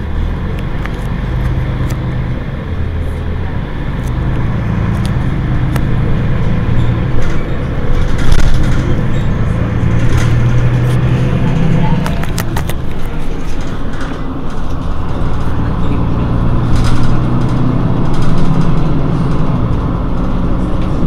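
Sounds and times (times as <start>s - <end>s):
bus engine idling: 0.0s - 21.0s.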